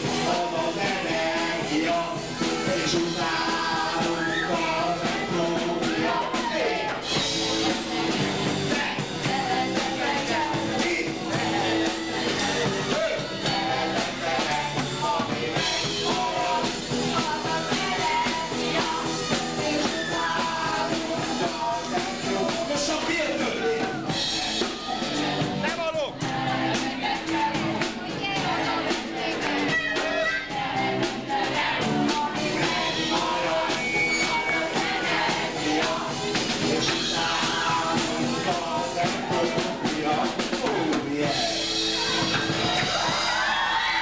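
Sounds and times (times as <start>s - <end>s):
live rock band: 0.0s - 44.0s
people singing into microphones: 0.0s - 44.0s.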